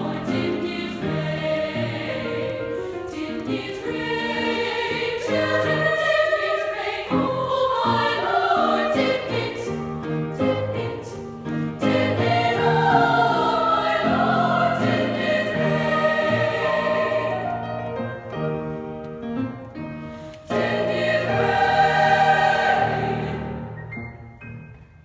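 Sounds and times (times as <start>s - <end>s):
women's choir singing gospel: 0.0s - 17.9s, 20.4s - 23.8s
piano accompaniment: 0.0s - 25.0s.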